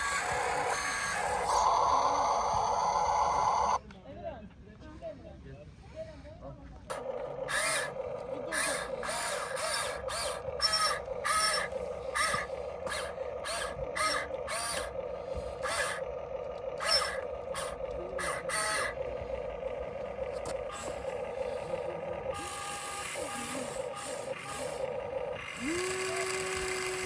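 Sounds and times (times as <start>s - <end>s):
electric gear motors whining: 0.0s - 3.8s, 6.9s - 27.0s
harsh grating bursts: 0.0s - 3.8s, 6.9s - 27.0s.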